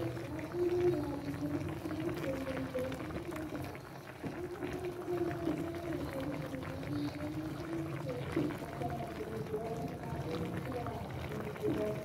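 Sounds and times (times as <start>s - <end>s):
sauce simmering and crackling: 0.0s - 12.0s.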